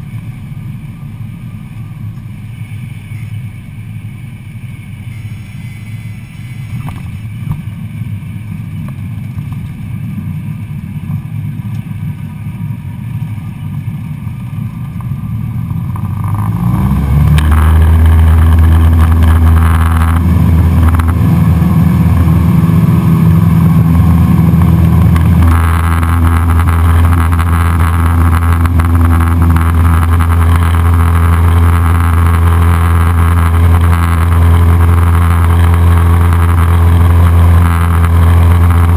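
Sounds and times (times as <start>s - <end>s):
light aircraft engine: 0.0s - 38.9s.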